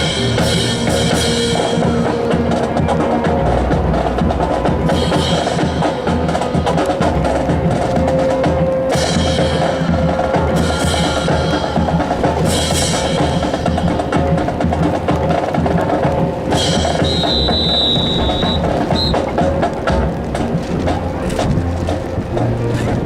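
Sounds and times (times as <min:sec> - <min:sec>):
drum-heavy music: 0:00.0 - 0:23.0.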